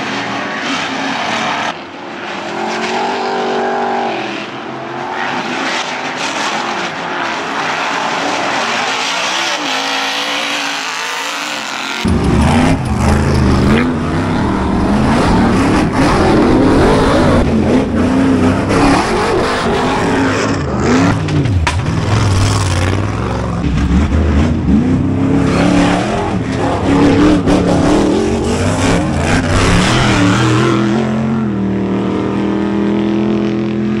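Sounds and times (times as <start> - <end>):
buggy engines revving: 0.0 - 34.0.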